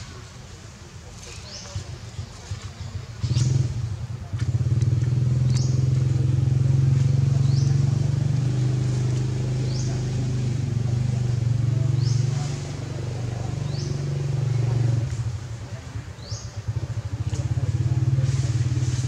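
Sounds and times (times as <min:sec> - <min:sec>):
small engine droning: 0:01.4 - 0:19.0.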